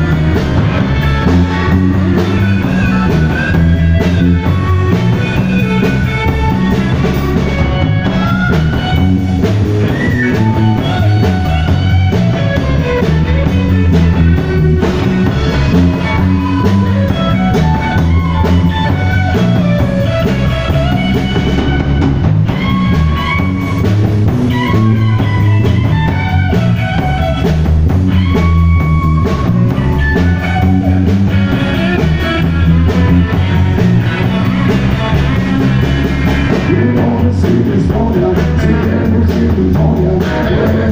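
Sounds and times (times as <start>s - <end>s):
drum kit beat: 0.0s - 40.9s
electric guitar lead lines: 0.0s - 40.9s.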